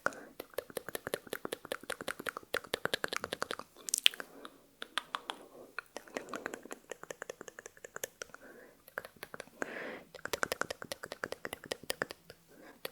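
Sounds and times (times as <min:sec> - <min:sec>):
wet mouth clicks: 0:00.0 - 0:12.9.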